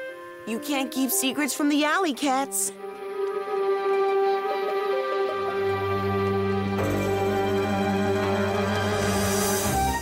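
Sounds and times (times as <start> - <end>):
soundtrack music with held notes: 0.0 - 10.0.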